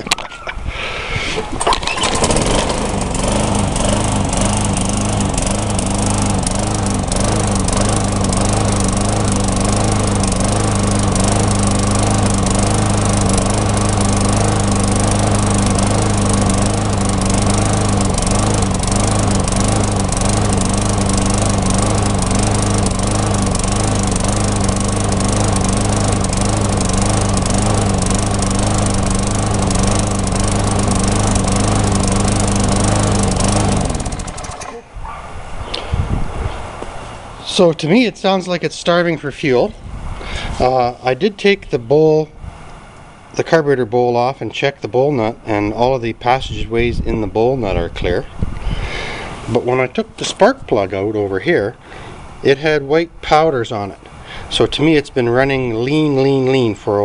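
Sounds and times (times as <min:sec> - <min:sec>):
lawn mower engine running with a miss: 0:00.0 - 0:38.1, 0:40.2 - 0:41.2, 0:45.6 - 0:51.1, 0:54.0 - 0:57.0.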